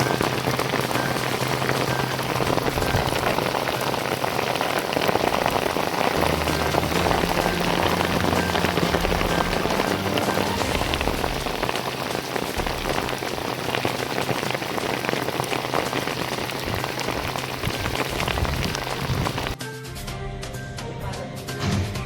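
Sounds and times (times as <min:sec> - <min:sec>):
heavy rain falling: 0:00.0 - 0:19.6.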